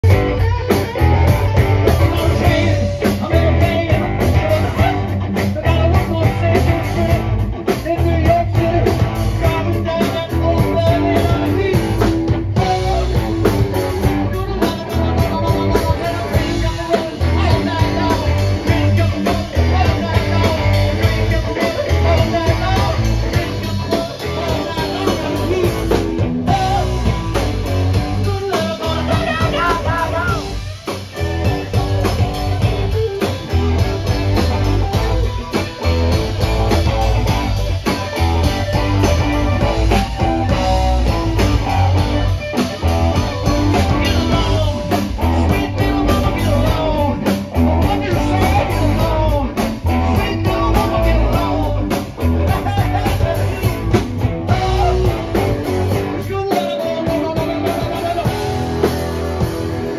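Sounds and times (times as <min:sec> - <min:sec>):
person singing: 0:00.0 - 0:59.1
electric guitars playing a riff: 0:00.0 - 0:59.9
pounding drum kit: 0:00.0 - 0:59.9.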